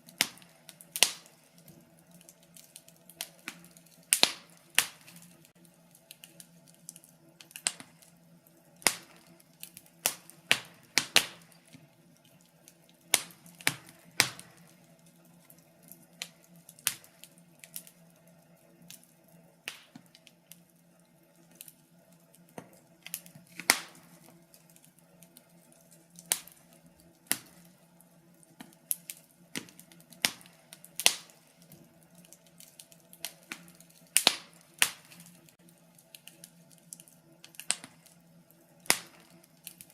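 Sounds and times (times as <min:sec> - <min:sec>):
faint steady low hum: 0:00.0 - 0:39.9
wood fire crackling: 0:00.0 - 0:39.9.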